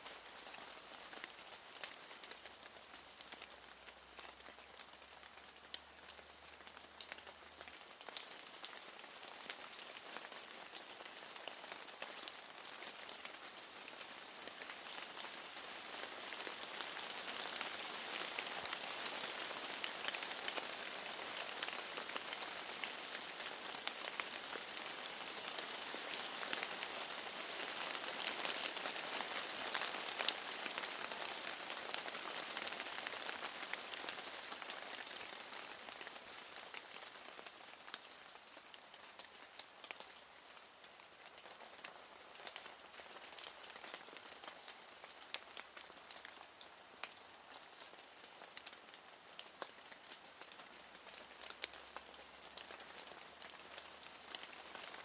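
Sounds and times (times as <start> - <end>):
raindrops ticking on hard surface: 0.0 - 55.0
steady rain: 0.0 - 55.0.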